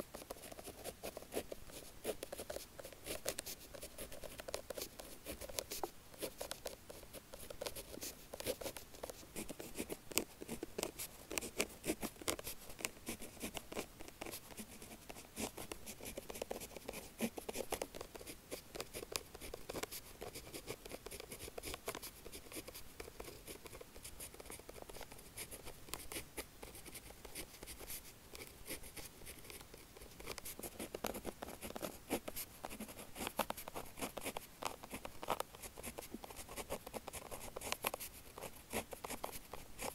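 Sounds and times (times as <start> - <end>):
pen scratching on paper: 0.0 - 39.9.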